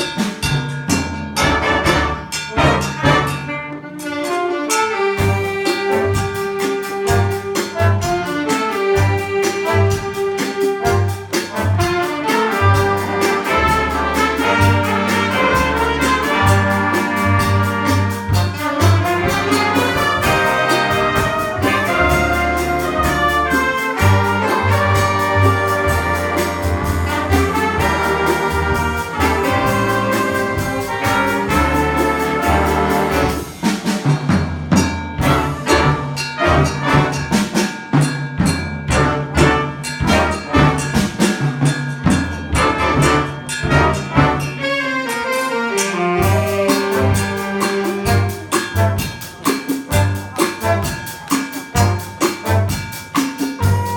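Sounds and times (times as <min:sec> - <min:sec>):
bass: 0:00.0 - 0:04.3, 0:05.1 - 0:45.4, 0:46.1 - 0:53.9
percussion: 0:00.0 - 0:53.9
school jazz band playing: 0:00.0 - 0:53.9
trombones: 0:00.0 - 0:53.9
trumpets: 0:00.9 - 0:53.9.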